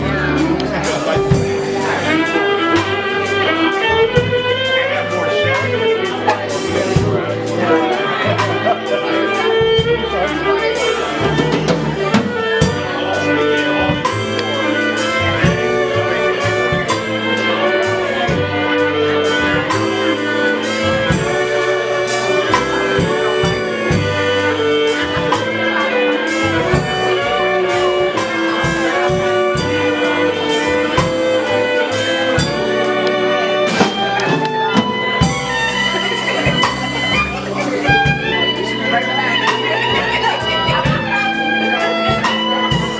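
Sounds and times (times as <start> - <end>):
drums: 0.0 - 42.9
horns and strings melody: 0.0 - 42.9.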